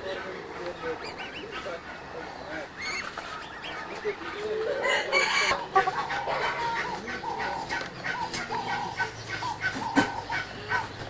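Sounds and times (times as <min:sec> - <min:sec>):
fowl calling: 0:00.0 - 0:11.0.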